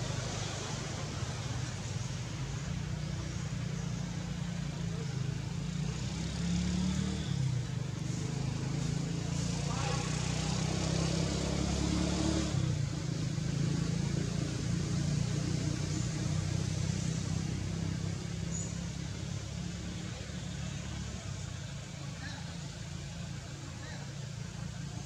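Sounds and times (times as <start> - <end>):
motor engine droning: 0.0 - 25.0.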